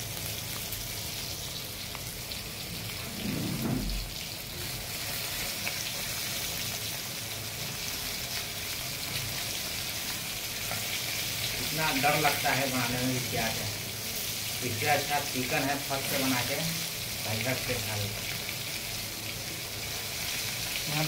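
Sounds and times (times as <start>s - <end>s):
fish deep-frying in oil: 0.0s - 21.0s.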